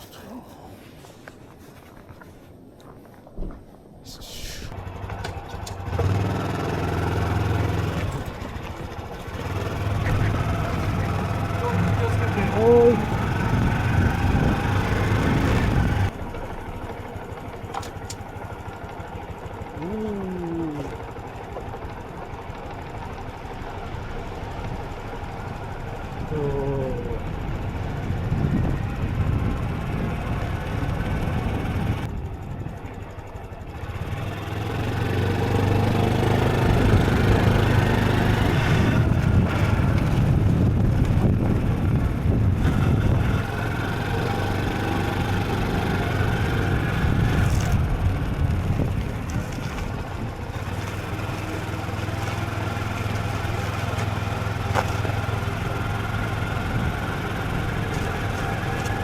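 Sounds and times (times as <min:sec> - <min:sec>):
motorcycle engine running: 0:04.7 - 0:59.0.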